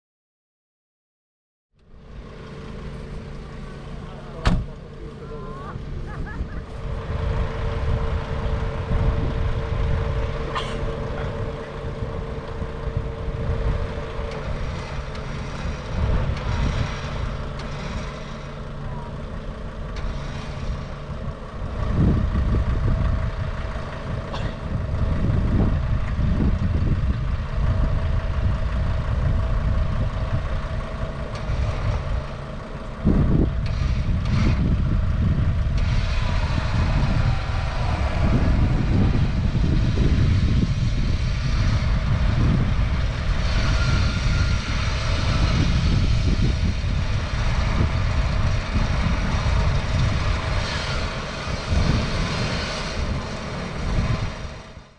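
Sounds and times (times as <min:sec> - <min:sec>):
car engine idling: 0:01.8 - 0:54.9
wind on microphone rumble: 0:05.7 - 0:54.9.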